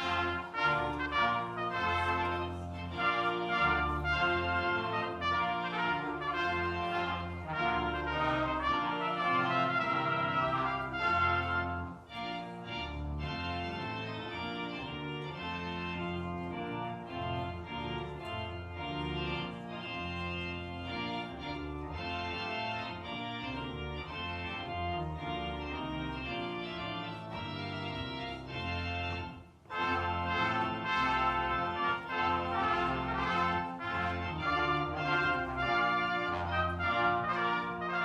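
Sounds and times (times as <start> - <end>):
organ playing sustained chords: 0.0 - 38.0.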